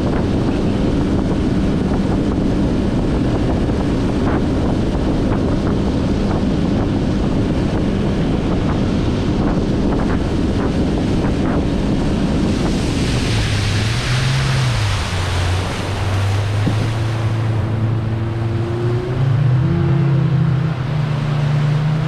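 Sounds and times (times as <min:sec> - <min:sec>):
speedboat engine drone: 0:00.0 - 0:22.0
water rushing along hull: 0:00.0 - 0:22.0
wind buffeting microphone: 0:00.0 - 0:22.0.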